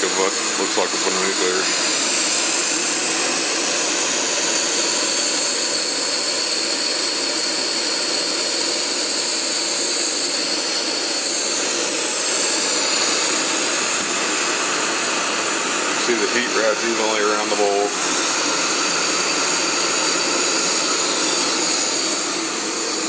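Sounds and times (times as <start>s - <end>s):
gas stove flame hissing: 0.0s - 23.0s.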